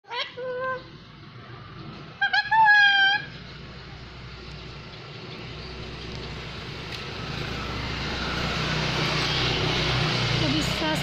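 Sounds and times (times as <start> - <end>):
distant engine rumble: 0.4 - 11.0.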